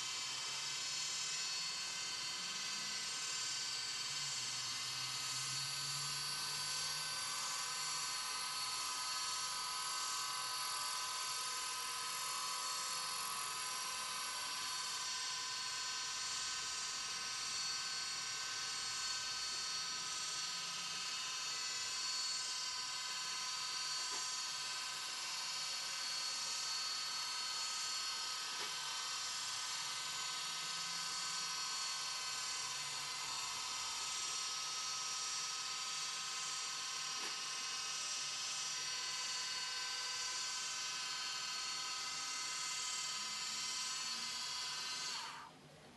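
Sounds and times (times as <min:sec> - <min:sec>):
metal lathe whining: 0:00.0 - 0:45.5.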